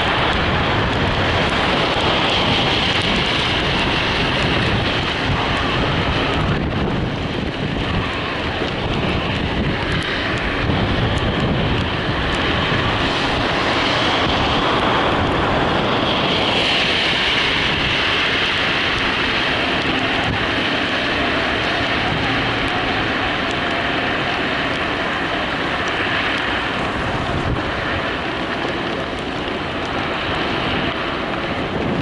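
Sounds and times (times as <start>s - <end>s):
car road and engine noise: 0.0s - 32.0s
wind on microphone: 0.0s - 32.0s.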